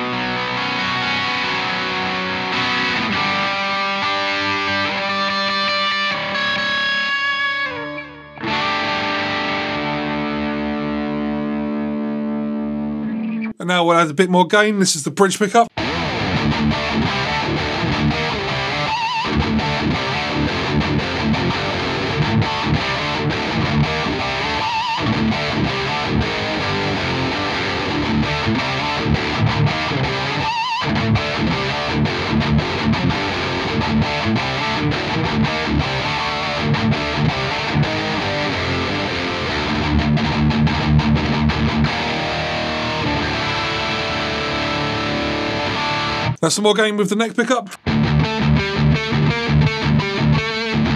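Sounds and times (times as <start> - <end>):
distorted electric guitar: 0.0 - 13.6, 15.7 - 50.9.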